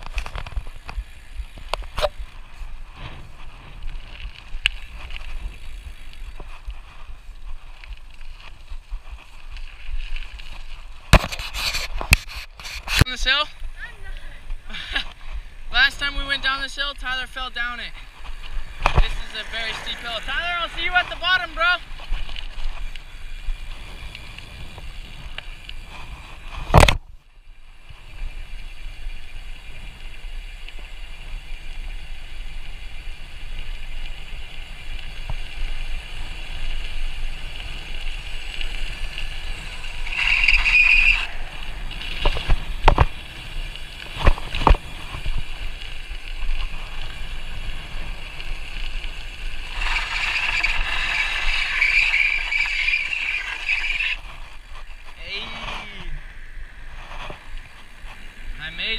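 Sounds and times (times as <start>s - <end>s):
scooter wheels rolling on asphalt: 0.0s - 58.9s.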